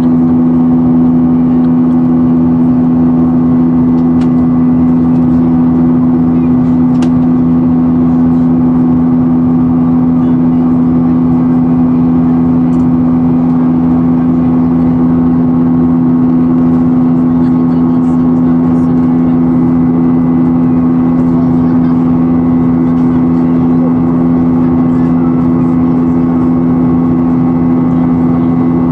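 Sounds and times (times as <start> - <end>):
jet engines droning in cabin: 0.0 - 28.9.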